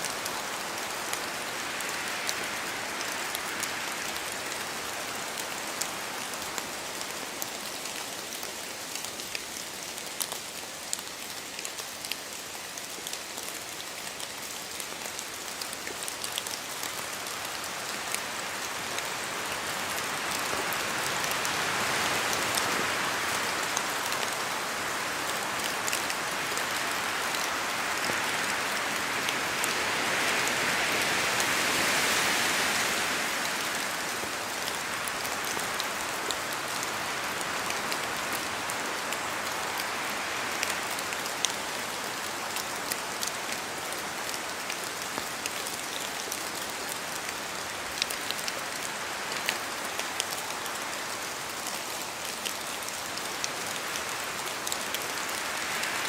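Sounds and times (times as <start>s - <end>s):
steady rain hiss: 0.0s - 56.0s
wind in trees: 0.0s - 56.0s.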